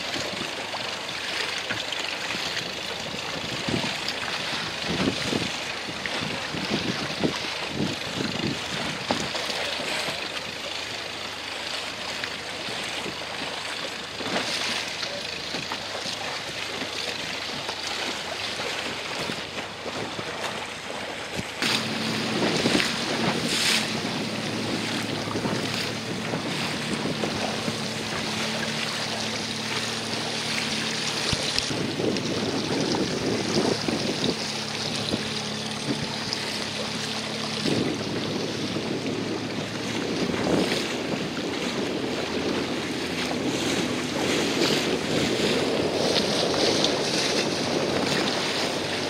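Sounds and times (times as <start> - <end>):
boat engine humming: 0.0 - 49.0
choppy sea: 0.0 - 49.0
wind on microphone: 1.7 - 10.8, 12.7 - 49.0.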